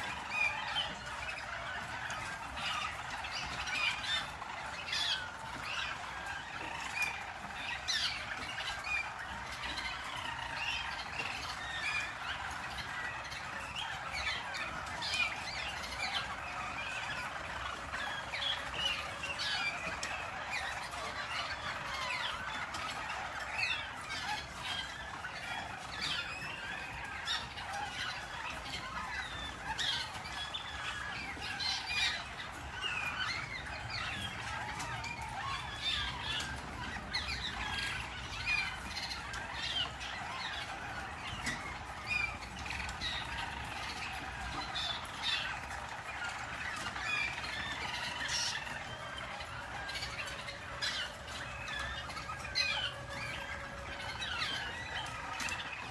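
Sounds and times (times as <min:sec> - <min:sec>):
canaries singing trills and chirps: 0:00.0 - 0:55.9.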